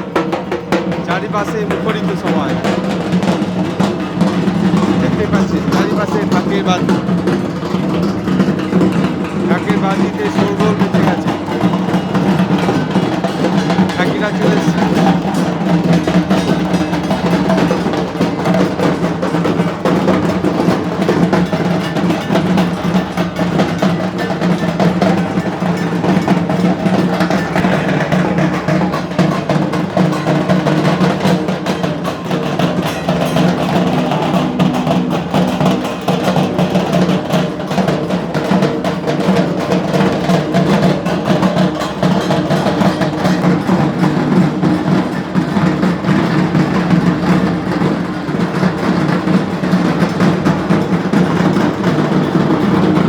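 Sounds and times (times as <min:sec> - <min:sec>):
barrel drums beating: 0:00.0 - 0:53.0.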